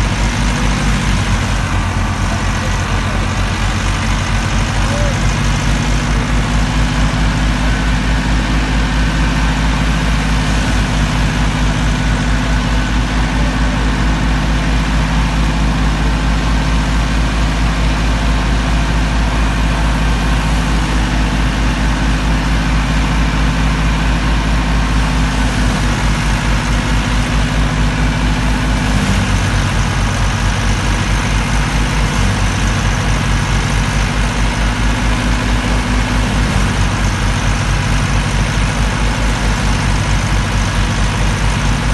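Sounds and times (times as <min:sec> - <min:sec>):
thresher drum and fan running: 0:00.0 - 0:41.9
tractor diesel engine running: 0:00.0 - 0:41.9.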